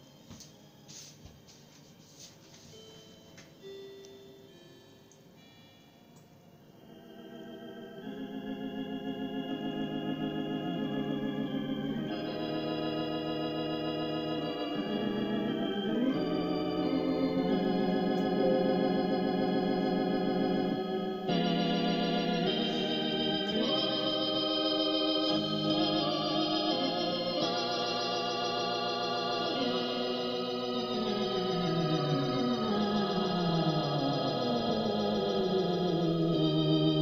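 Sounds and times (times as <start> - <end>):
slow organ chords with tremolo: 0.0 - 37.0.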